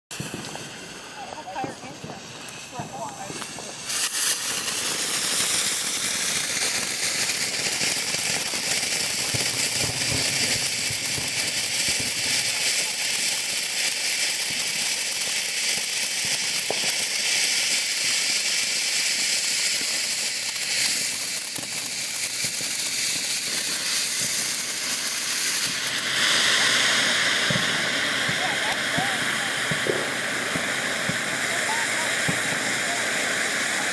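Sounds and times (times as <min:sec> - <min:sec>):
firework fountain hissing: 0:00.1 - 0:33.9.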